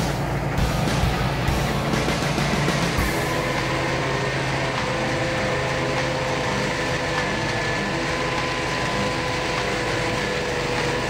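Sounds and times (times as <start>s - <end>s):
circular saw blade whining through log: 0.0s - 11.0s
engine running under load: 0.0s - 11.0s.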